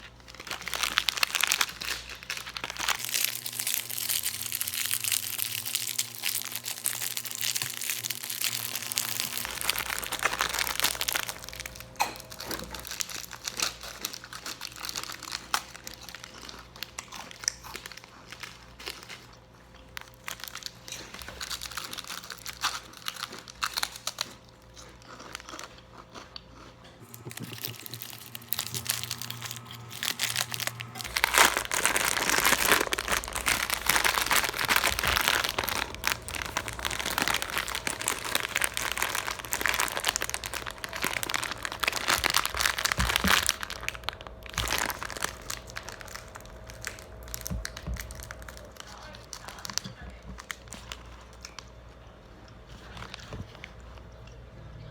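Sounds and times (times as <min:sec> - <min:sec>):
plastic packaging crinkling: 0:00.0 - 0:25.6, 0:27.0 - 0:51.7
crunchy snacks being chewed: 0:00.0 - 0:54.4.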